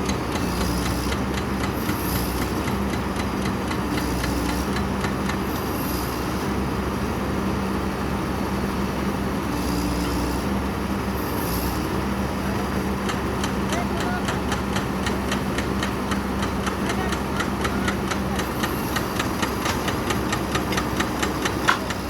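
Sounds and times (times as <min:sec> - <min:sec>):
piling rig engine running: 0:00.0 - 0:22.0.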